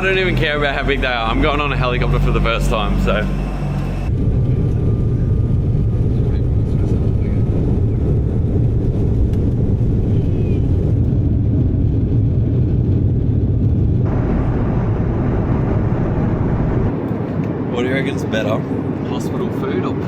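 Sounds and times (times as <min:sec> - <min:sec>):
airliner cabin drone: 0:00.0 - 0:20.0.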